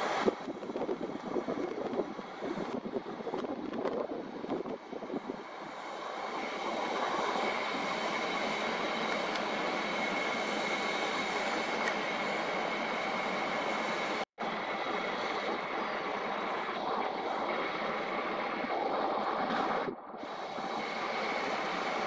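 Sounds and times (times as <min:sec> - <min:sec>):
machinery running with high whine: 0:00.0 - 0:22.0.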